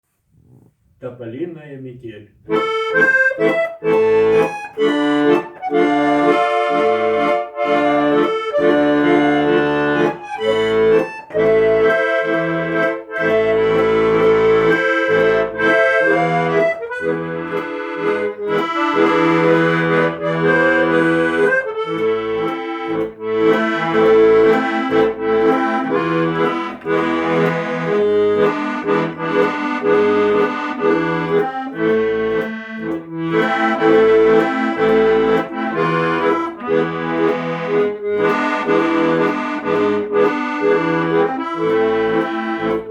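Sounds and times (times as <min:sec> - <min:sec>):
instrumental music: 0:00.1 - 0:42.9.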